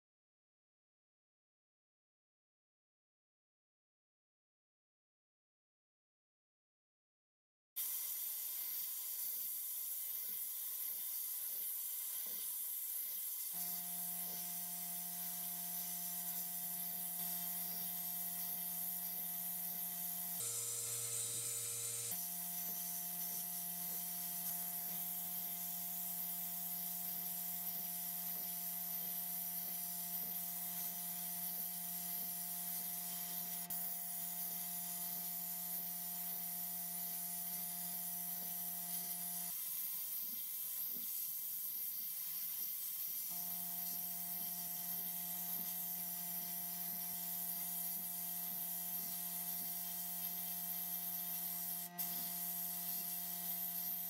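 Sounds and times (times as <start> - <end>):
sandblasting gun hissing: 7.8 - 54.0.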